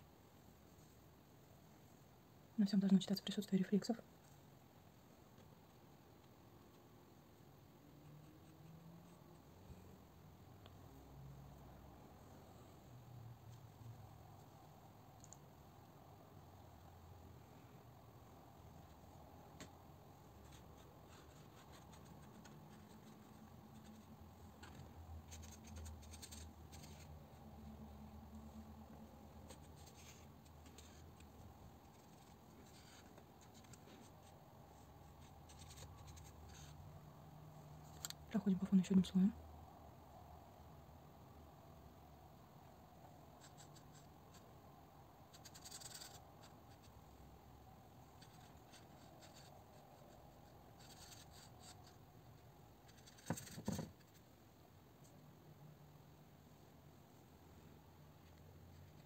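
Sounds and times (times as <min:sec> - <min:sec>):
low steady hum: 0:00.0 - 0:53.2.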